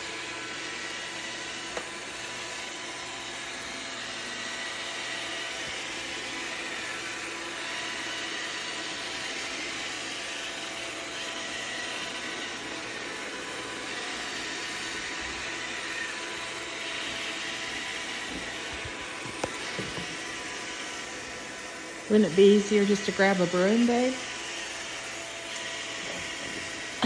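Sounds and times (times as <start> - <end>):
robot vacuum whirring hum: 0.0 - 27.0.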